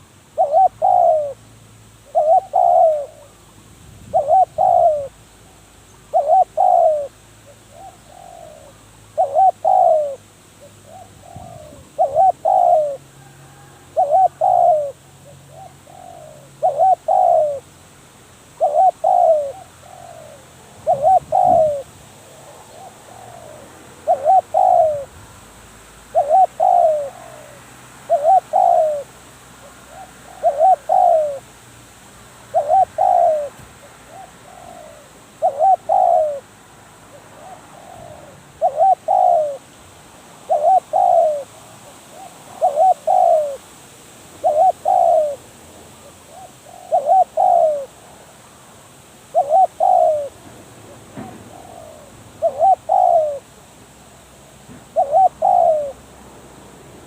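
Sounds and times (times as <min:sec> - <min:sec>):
dove cooing: 0:00.0 - 0:17.8, 0:18.6 - 0:25.2, 0:26.1 - 0:31.6, 0:32.5 - 0:36.5, 0:37.1 - 0:39.7, 0:40.4 - 0:43.7, 0:44.4 - 0:48.1, 0:49.2 - 0:53.7, 0:54.8 - 0:56.1.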